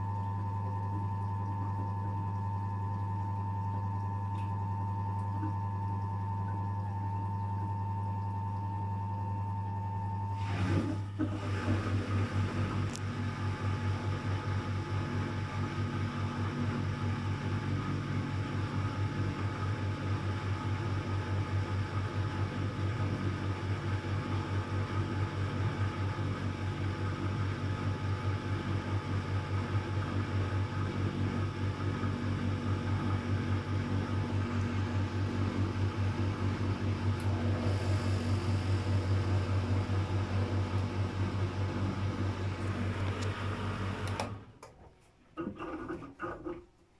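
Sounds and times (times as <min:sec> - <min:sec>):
washing machine drain pump humming: 0:00.0 - 0:46.9.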